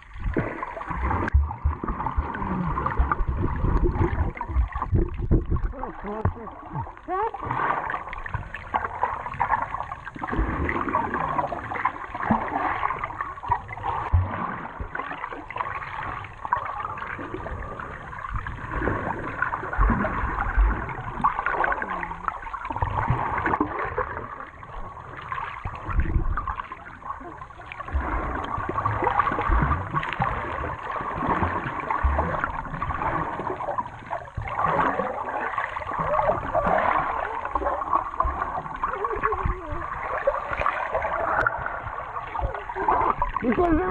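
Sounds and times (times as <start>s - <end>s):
water sloshing and gurgling: 0.0s - 43.9s.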